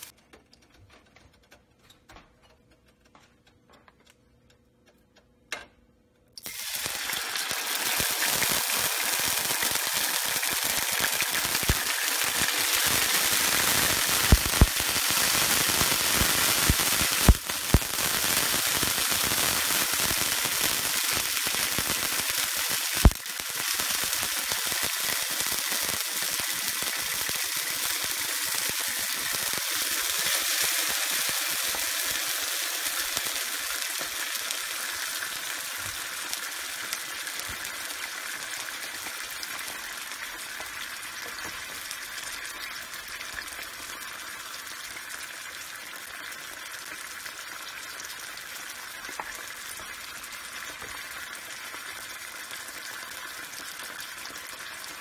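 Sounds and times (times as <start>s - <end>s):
beans sizzling in a frying pan: 6.4s - 55.0s.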